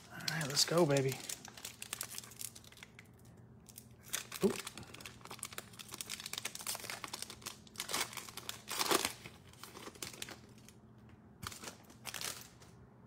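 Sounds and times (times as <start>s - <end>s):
foil wrapper crinkling and tearing: 0.0s - 10.8s, 11.4s - 12.8s.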